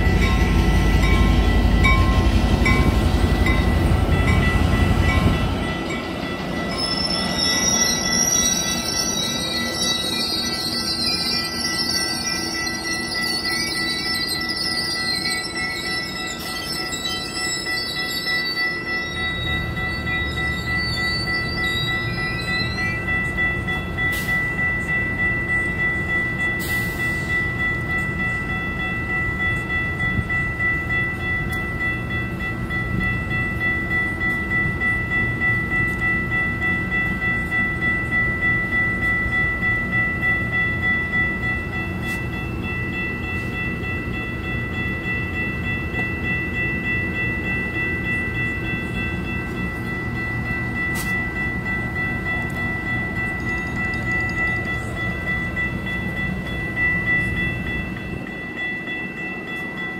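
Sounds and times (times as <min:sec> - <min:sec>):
crossing bells ringing: 0:00.0 - 0:59.9
passenger train running slowly: 0:00.0 - 0:59.9.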